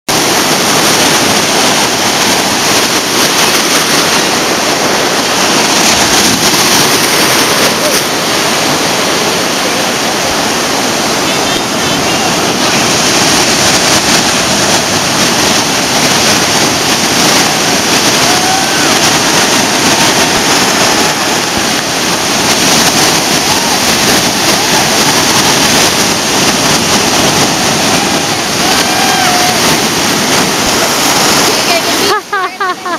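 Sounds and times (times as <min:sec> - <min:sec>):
ocean surf breaking: 0:00.1 - 0:32.9.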